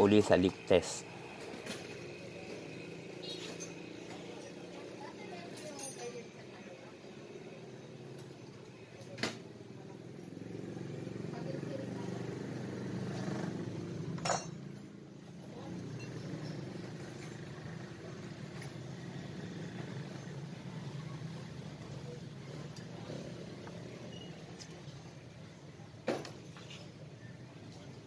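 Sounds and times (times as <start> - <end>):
low engine-like hum: 0.4 - 28.0.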